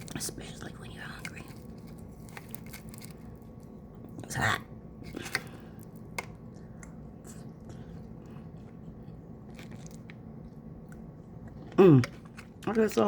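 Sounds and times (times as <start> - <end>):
person chewing food: 0.9 - 4.3, 5.0 - 12.7.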